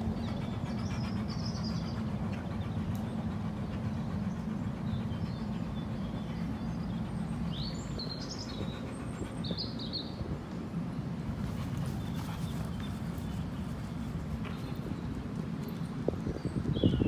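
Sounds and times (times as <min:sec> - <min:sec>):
birds chirping: 0:00.0 - 0:17.0
low outdoor rumble: 0:00.0 - 0:17.0.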